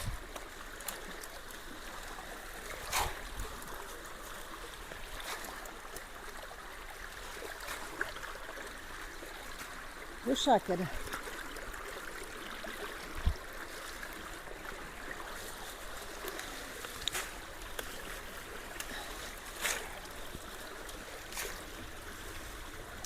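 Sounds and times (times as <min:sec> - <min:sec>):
water running through culvert: 0:00.0 - 0:23.0.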